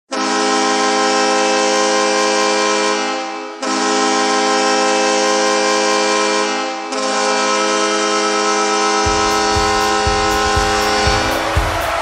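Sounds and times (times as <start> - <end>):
hockey goal horn blast: 0.1 - 12.0.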